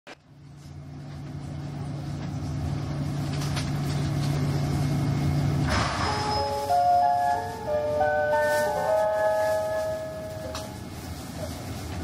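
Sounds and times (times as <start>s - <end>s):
electric train humming: 0.2s - 12.0s.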